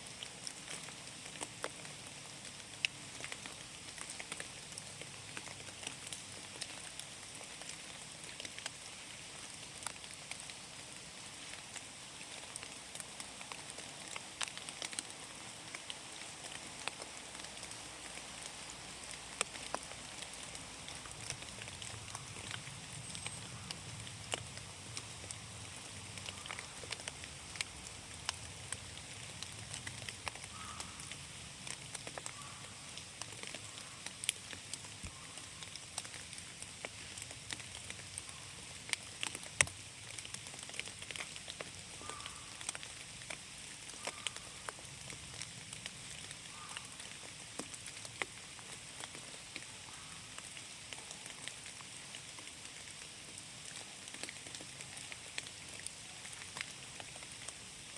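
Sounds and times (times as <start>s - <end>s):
rain patter in forest: 0.0s - 57.9s
sharp raindrop ticks: 0.1s - 10.7s, 11.4s - 57.9s.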